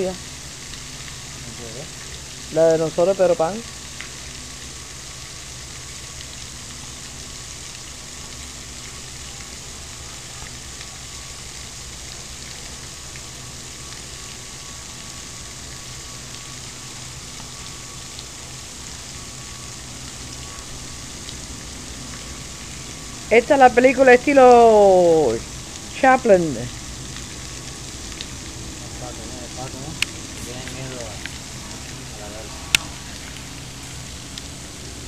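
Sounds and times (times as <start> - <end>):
faint low hum: 0.0 - 35.0
steady background hiss: 0.0 - 35.0.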